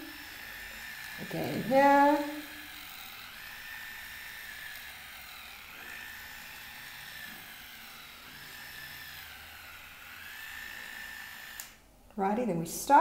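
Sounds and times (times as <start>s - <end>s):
electronic nail file whine: 0.0s - 11.8s.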